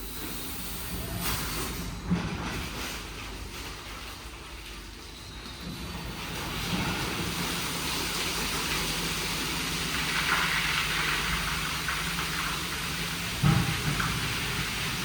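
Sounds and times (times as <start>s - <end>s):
car wash machinery hum: 0.0s - 15.0s.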